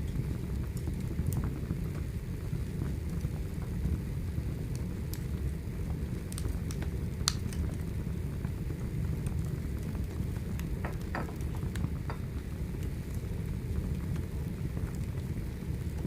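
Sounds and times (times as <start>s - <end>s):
fire crackles and pops: 0.0s - 16.0s
wood fire rumbling: 0.0s - 16.0s.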